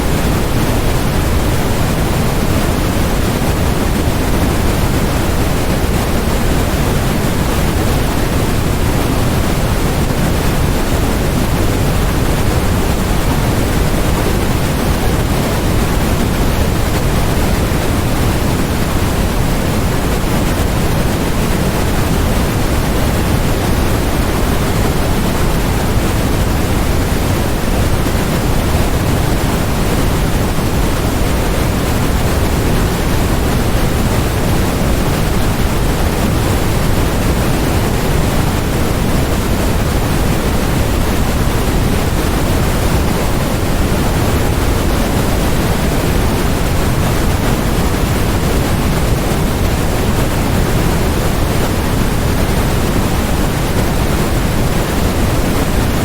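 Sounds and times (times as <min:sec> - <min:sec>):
steady pink noise hiss: 0:00.0 - 0:56.0.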